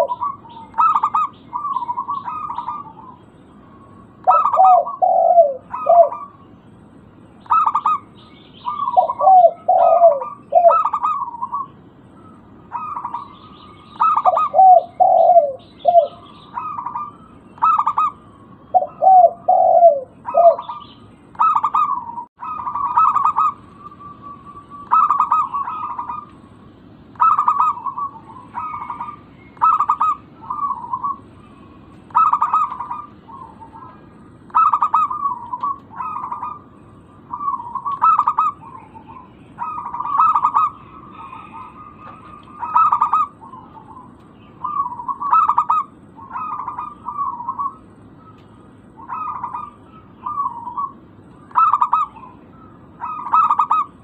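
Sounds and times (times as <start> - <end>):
dove cooing: 0.0 - 6.5, 7.4 - 54.0.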